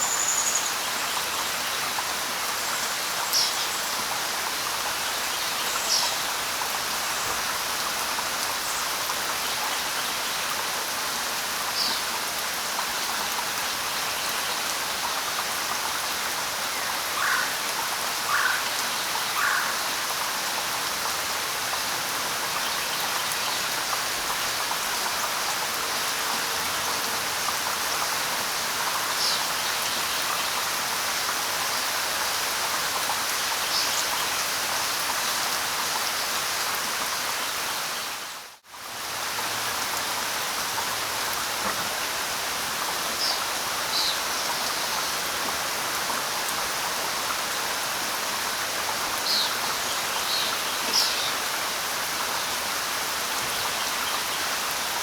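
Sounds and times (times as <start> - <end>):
light rain pattering on leaves: 0.0 - 55.0.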